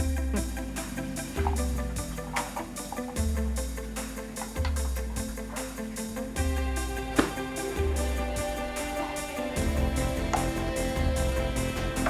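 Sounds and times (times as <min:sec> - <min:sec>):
music with deep bass and beat: 0:00.0 - 0:12.0.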